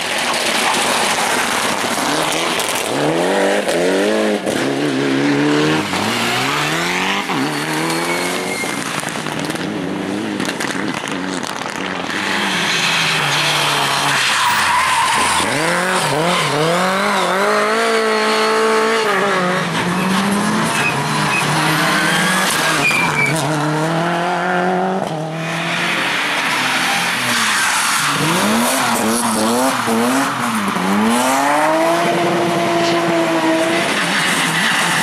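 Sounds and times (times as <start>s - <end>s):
tyres skidding and squealing: 0.0s - 35.0s
car engine revving: 0.5s - 35.0s.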